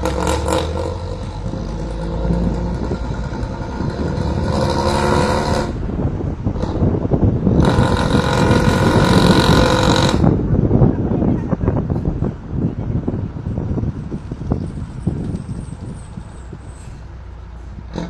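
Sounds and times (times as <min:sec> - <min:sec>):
bus diesel engine roaring: 0:00.0 - 0:18.0.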